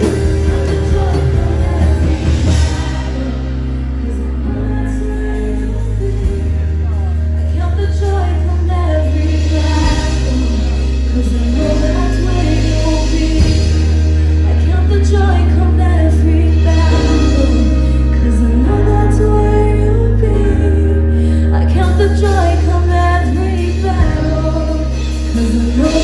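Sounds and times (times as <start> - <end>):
bass and keyboard chords: 0.0 - 26.0
worship band with singers: 0.0 - 26.0.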